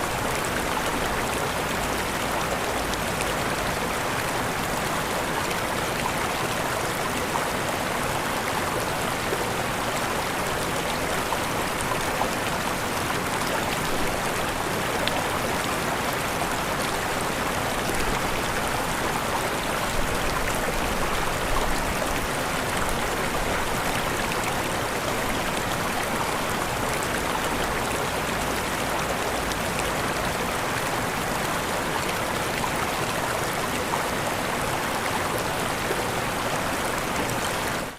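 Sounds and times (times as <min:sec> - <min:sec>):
river rushing over waterfalls: 0:00.0 - 0:37.9.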